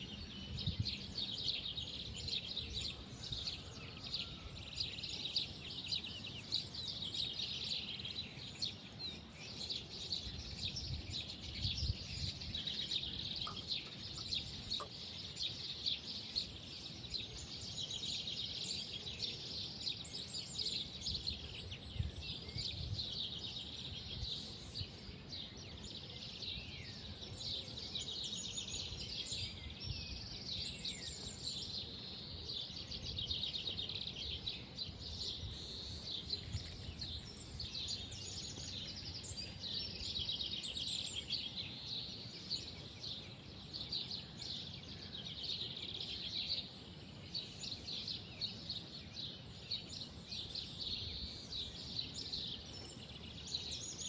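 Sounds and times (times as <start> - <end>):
birds chirping and singing: 0.0 - 54.0.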